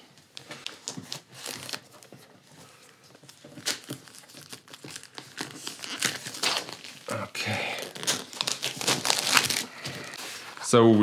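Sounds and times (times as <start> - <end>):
plastic wrapping crinkling and tearing: 0.3 - 10.6.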